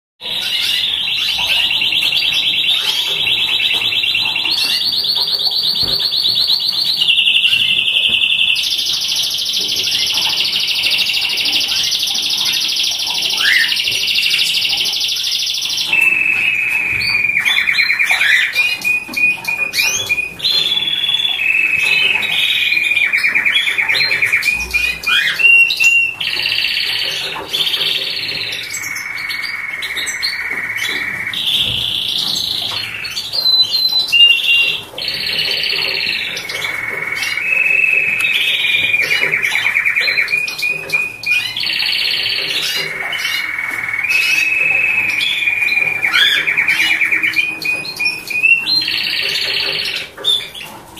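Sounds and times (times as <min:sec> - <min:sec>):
canary singing trills: 0:00.2 - 0:50.9.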